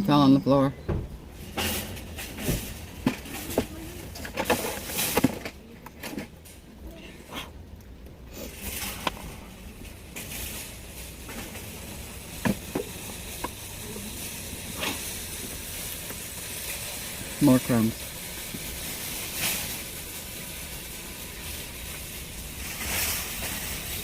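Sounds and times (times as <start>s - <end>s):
close-up eating noises: 2.8s - 22.6s.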